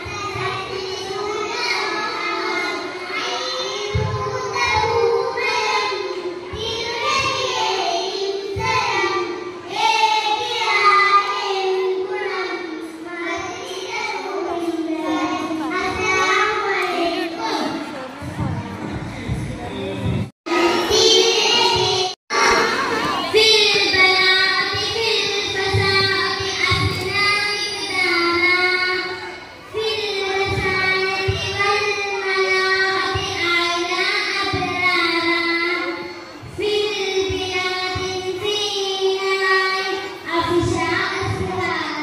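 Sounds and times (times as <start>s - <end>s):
child singing: 0.0s - 17.7s, 20.5s - 42.0s.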